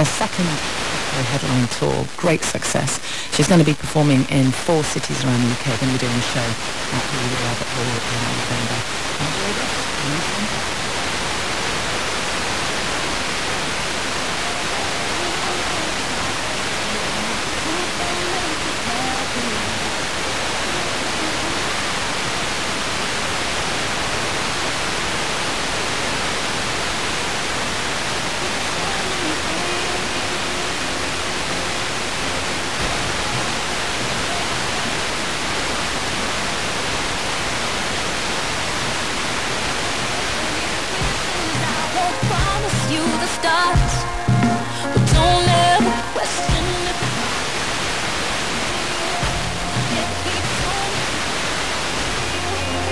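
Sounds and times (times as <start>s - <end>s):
faint radio broadcast: 0.0s - 52.9s
radio static hiss: 0.0s - 52.9s.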